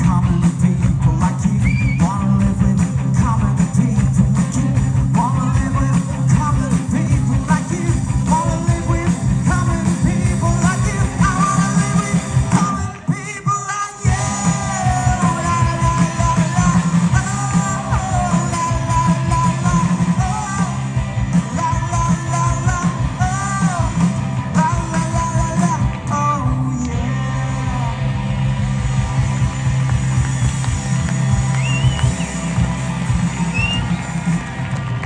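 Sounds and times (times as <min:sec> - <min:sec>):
person singing: 0:00.0 - 0:28.2
live rock band playing: 0:00.0 - 0:35.0.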